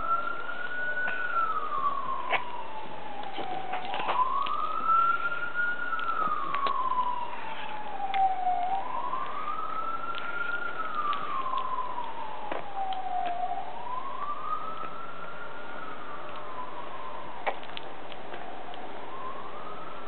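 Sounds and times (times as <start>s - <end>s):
wailing siren: 0.0s - 20.0s.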